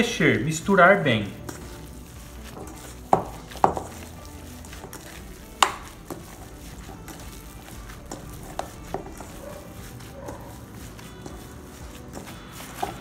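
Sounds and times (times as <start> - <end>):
squishing of ground meat: 0.0 - 13.0.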